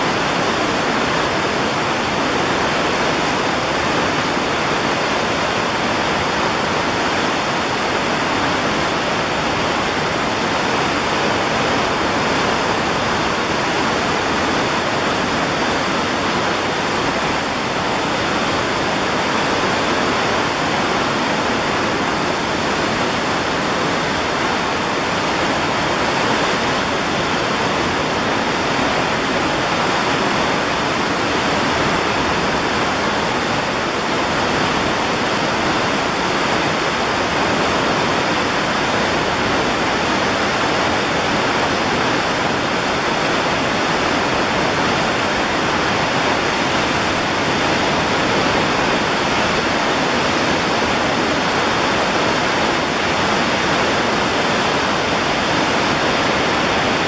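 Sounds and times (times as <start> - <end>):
water rushing through rapids: 0.0 - 57.0.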